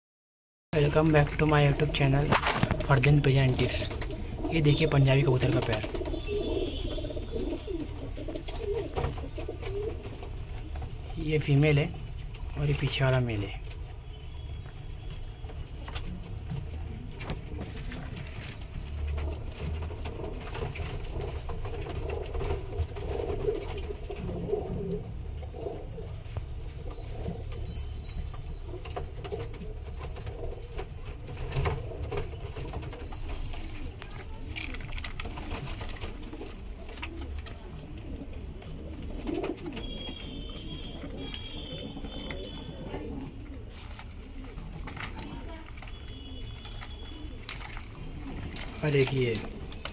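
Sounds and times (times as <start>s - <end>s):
pigeons cooing: 3.7s - 11.0s, 16.9s - 49.9s.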